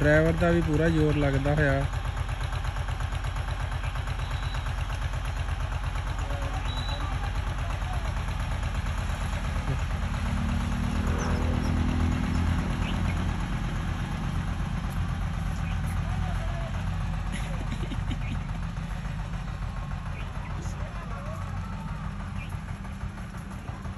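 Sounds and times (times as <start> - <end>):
tractor engine straining: 0.0 - 23.9.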